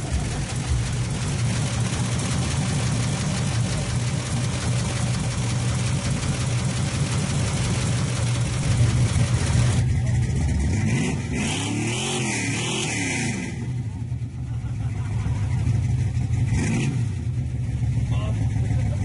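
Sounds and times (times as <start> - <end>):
car engine idling: 0.0 - 11.3, 13.4 - 19.0.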